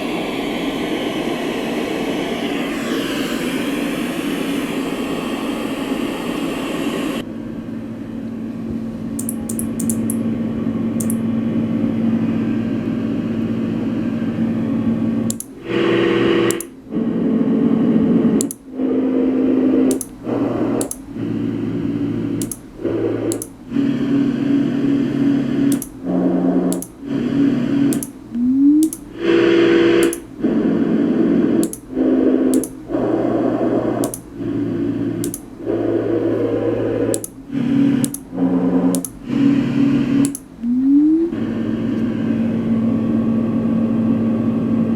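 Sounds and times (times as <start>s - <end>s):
white noise machine: 0.0s - 44.9s.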